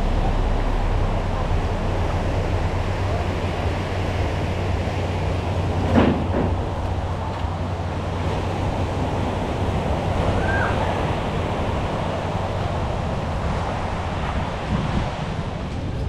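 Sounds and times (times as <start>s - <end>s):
low hum: 0.0s - 15.8s
surf rushing: 0.0s - 16.0s
wind: 0.0s - 16.0s.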